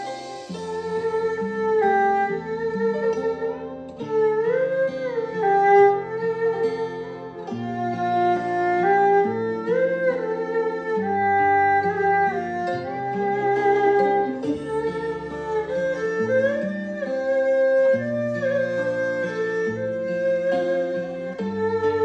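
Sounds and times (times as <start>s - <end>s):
backing track music: 0.0s - 22.0s
erhu playing slow melody: 0.0s - 22.0s.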